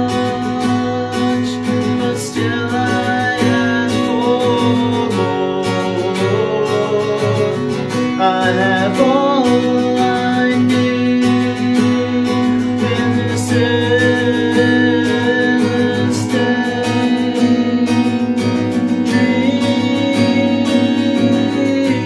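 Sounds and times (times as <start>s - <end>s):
acoustic guitar strumming: 0.0s - 22.0s
man singing: 0.0s - 22.0s.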